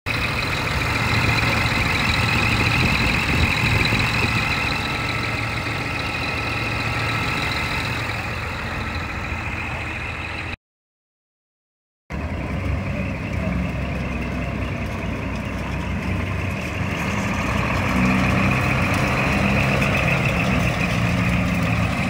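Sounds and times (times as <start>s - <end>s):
diesel engine idling: 0.1s - 10.6s, 12.1s - 22.0s.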